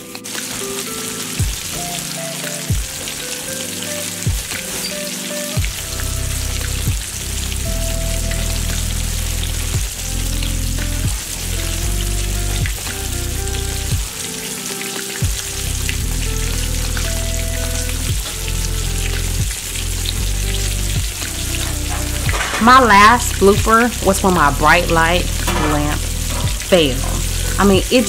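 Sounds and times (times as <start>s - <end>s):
background music with bass line: 0.0s - 28.0s
fish frying in hot oil: 0.0s - 28.0s.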